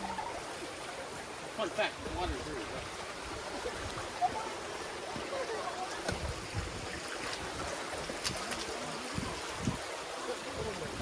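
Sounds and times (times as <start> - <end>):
water running over rocks: 0.0 - 11.0.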